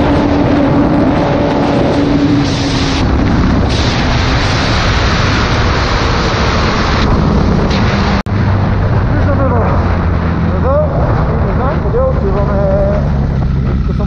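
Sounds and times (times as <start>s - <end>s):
motorcycle engine: 0.0s - 14.0s
wind buffeting microphone: 0.0s - 14.0s.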